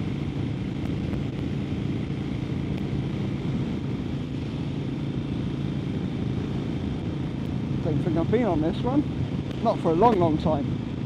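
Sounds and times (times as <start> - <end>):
motorcycle engine drone: 0.0 - 11.0
road noise: 0.0 - 11.0
wind rush: 0.0 - 11.0.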